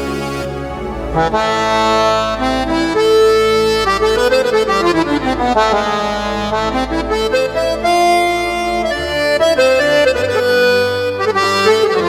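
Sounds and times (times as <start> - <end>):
keyboard accordion melody: 0.0 - 12.0
low held drone: 0.0 - 12.0.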